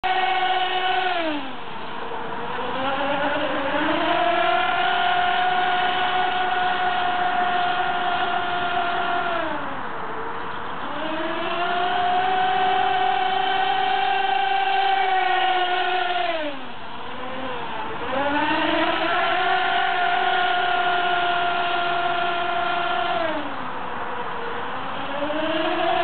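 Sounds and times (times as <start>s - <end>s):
model boat motor running fast: 0.0s - 26.0s.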